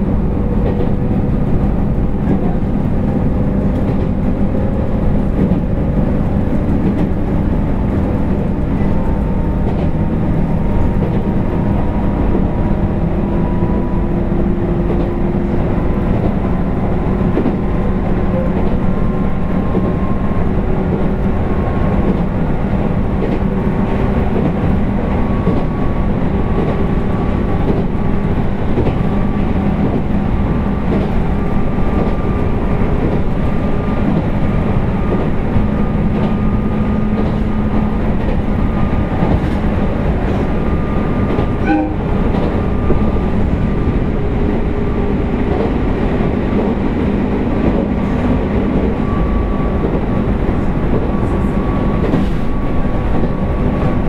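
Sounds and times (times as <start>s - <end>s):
rail-joint clicks: 0.0s - 44.0s, 47.6s - 54.0s.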